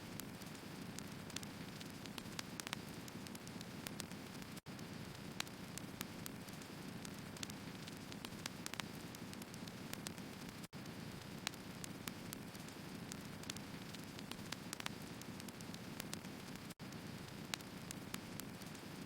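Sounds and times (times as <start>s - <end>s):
fire burning: 0.0s - 19.0s
logs crackling and popping: 0.0s - 19.0s.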